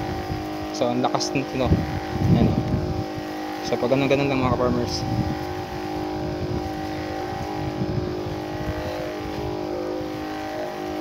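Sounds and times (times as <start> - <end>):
sprayer pump humming: 0.0 - 11.0.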